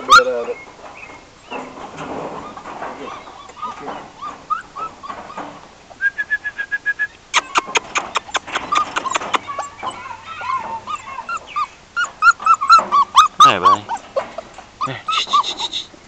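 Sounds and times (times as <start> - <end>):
puppies yelping: 0.0 - 6.0, 7.2 - 16.0
puppies whining and yipping: 0.0 - 16.0.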